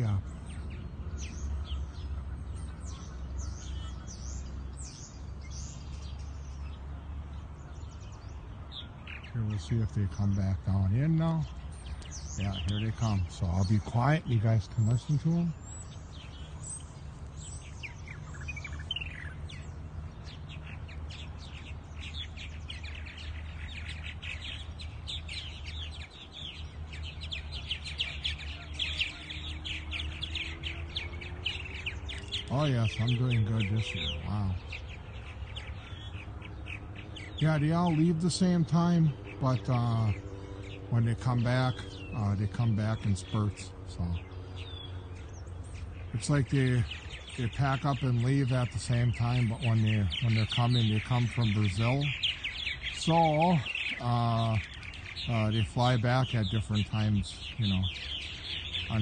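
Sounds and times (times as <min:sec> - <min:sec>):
flock of birds chirping: 0:00.0 - 0:59.0.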